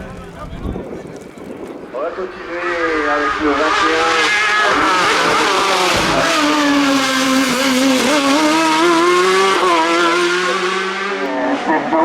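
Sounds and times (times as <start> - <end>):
car engine revving: 2.0 - 12.0.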